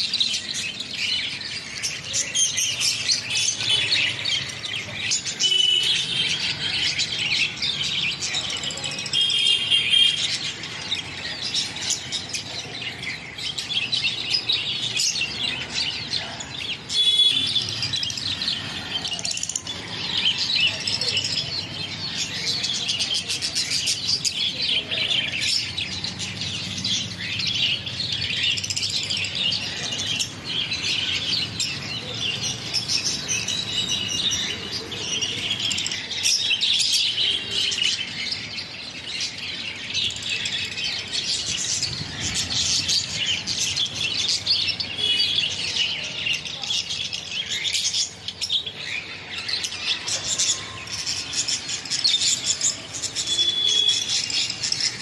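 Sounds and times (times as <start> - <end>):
caged birds chirping: 0.0 - 55.0.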